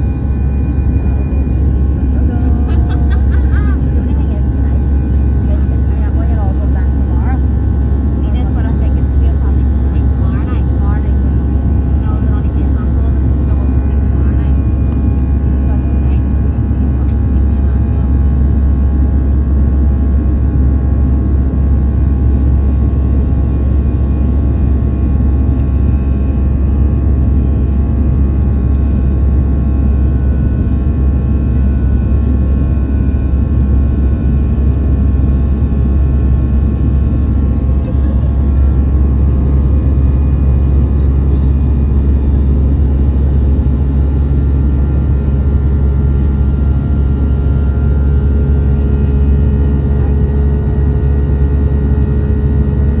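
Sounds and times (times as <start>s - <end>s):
jet engines rumbling in cabin: 0.0s - 53.0s.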